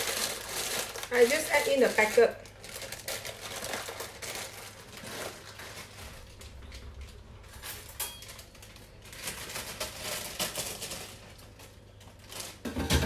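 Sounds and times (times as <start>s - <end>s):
plastic packet rustling: 0.0s - 13.0s.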